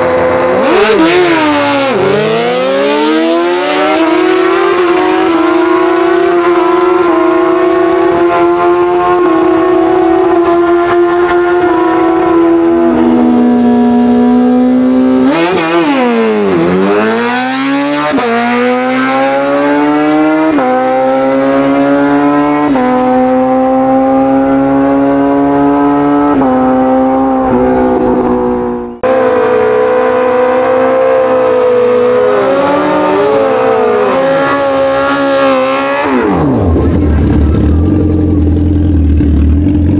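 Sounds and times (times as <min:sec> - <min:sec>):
motorcycle engine revving: 0:00.0 - 0:39.9
motorcycle engines at full throttle: 0:00.0 - 0:39.9.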